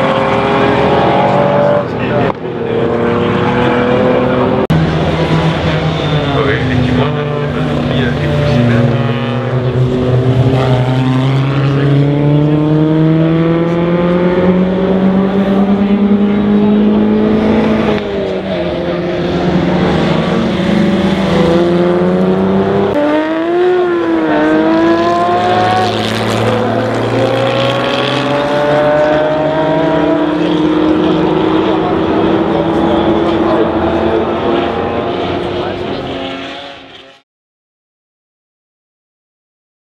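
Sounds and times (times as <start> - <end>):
racing car engines at full throttle: 0.0 - 37.2.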